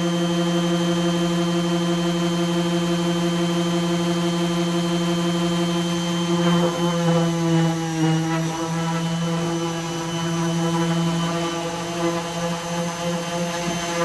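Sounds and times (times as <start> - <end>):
electric orbital sander running: 0.0 - 14.0.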